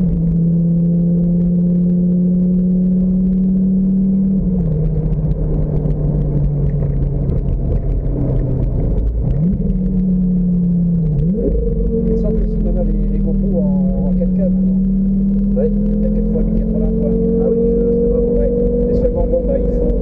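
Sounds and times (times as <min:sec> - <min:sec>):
car engine cruising: 0:00.0 - 0:20.0
wind noise: 0:00.0 - 0:20.0.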